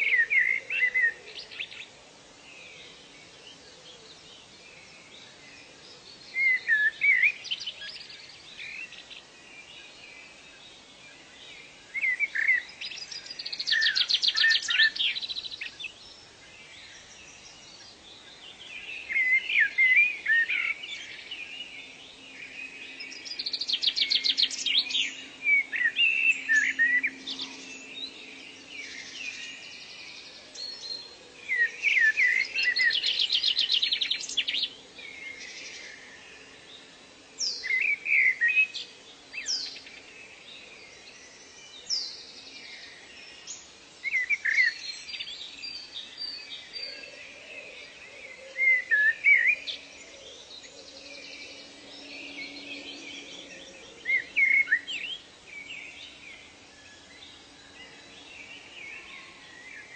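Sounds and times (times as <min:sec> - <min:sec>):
birdsong with whistles and trills: 0:00.0 - 0:59.9.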